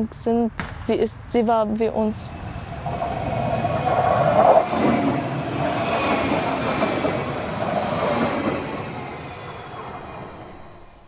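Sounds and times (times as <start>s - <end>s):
train wheels rolling on track: 1.4s - 11.0s.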